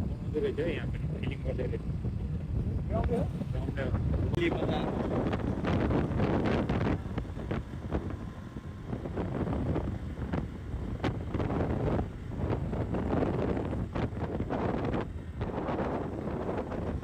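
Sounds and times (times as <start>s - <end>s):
motorcycle engine and road noise: 0.0s - 17.0s
wind buffeting microphone: 0.0s - 17.0s.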